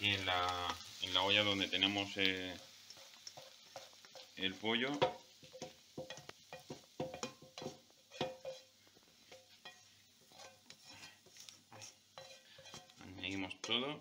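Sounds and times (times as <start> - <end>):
utensil scraping a frying pan: 2.6 - 13.9.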